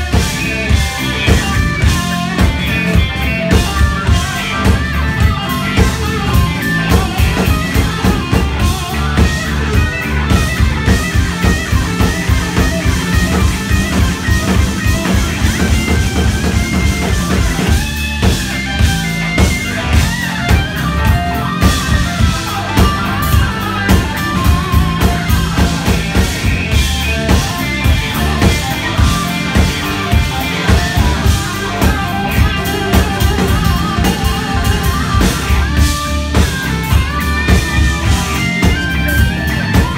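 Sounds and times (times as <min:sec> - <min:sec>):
electric guitar lines: 0:00.0 - 0:39.9
steady drum beat: 0:00.0 - 0:39.9.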